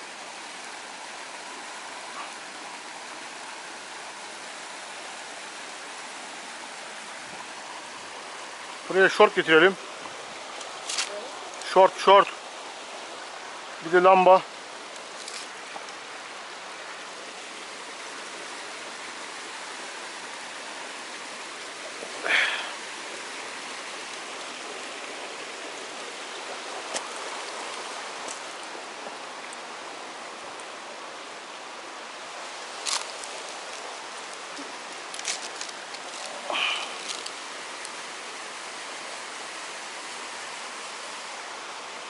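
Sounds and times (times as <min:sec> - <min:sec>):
stream water flowing: 0:00.0 - 0:42.0.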